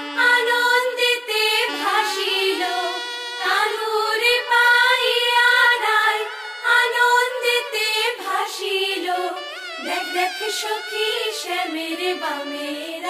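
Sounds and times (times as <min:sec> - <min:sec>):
high voice singing devotional song: 0:00.0 - 0:13.0.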